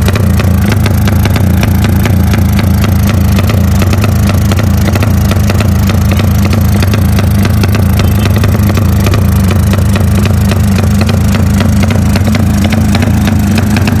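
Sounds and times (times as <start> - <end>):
motorcycle low choppy exhaust: 0.0 - 14.0.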